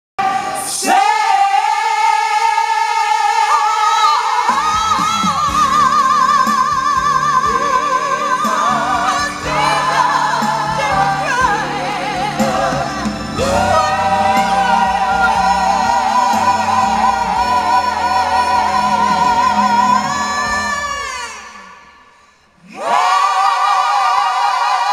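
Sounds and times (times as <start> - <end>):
choir singing through loudspeakers: 0.2 - 24.9.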